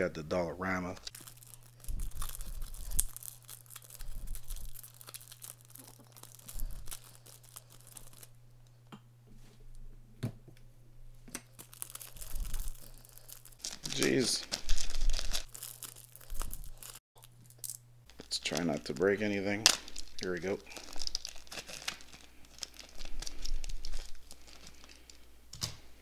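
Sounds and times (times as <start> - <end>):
foil wrapper tearing and crinkling: 1.1 - 8.4, 11.5 - 25.3.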